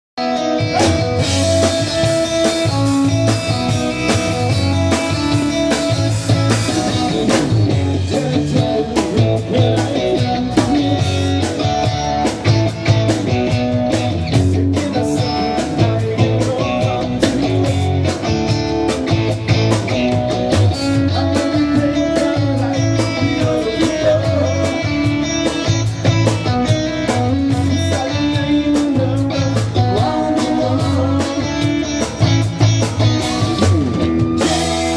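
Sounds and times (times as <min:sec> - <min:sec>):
live band playing blues-rock: 0:00.2 - 0:34.9.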